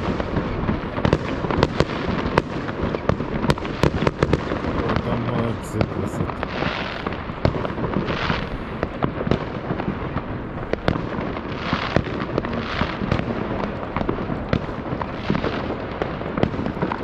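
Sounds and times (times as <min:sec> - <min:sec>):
fireworks banging and crackling: 0:00.0 - 0:17.0.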